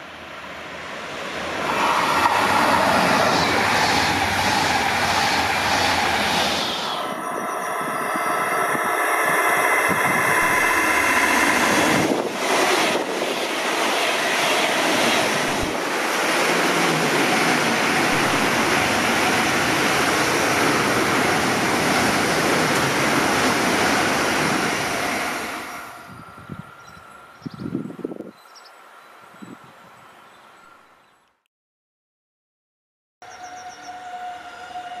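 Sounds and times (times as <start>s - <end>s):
high-speed train passing: 0.0s - 28.3s, 33.2s - 35.0s.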